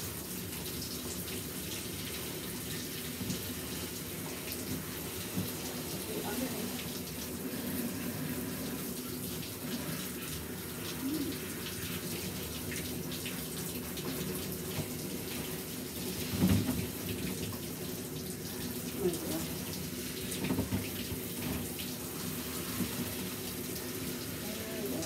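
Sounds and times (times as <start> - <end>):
shower sprayer water running: 0.0 - 25.0.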